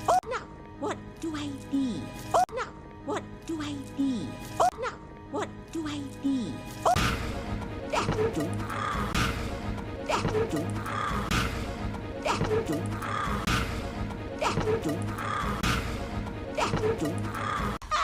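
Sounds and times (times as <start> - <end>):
film soundtrack music: 0.0 - 18.0.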